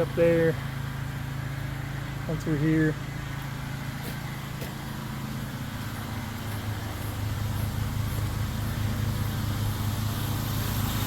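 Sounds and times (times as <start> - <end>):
pressure washer engine running: 0.0 - 11.0.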